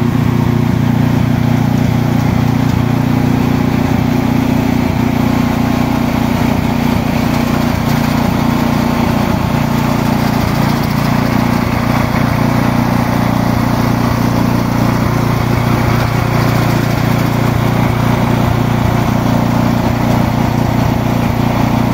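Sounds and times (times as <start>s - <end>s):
machinery low mechanical drone: 0.0s - 21.9s.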